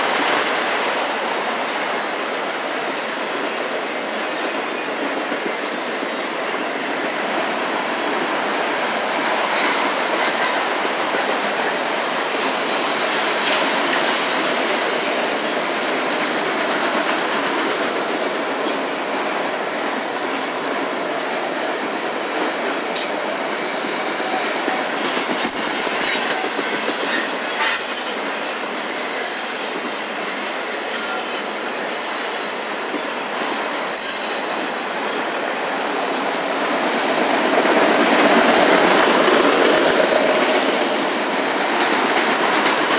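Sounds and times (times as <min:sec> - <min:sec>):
freight train wheels rumbling on rail: 0:00.0 - 0:42.9.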